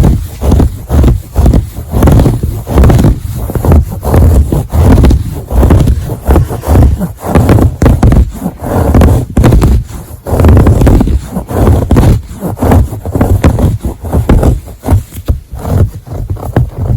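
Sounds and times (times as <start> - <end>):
scratching on fabric: 0.0 - 16.9.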